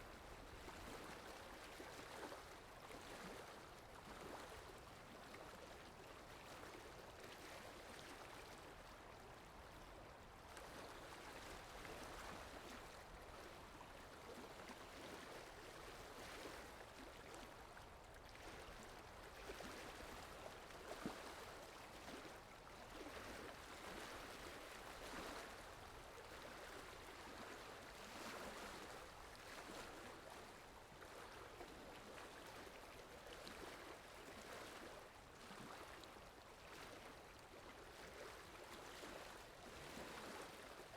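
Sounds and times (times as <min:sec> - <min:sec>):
water lapping: 0:00.0 - 0:40.9
wind: 0:00.0 - 0:40.9.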